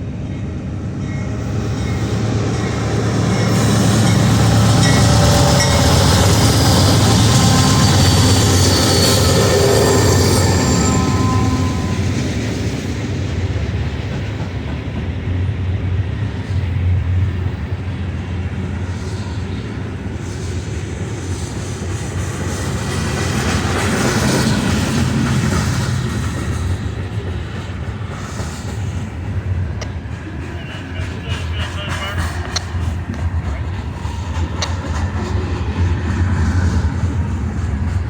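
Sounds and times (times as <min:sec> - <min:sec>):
freight train rolling past: 0:00.0 - 0:38.0
wheel-on-rail noise: 0:00.8 - 0:38.0.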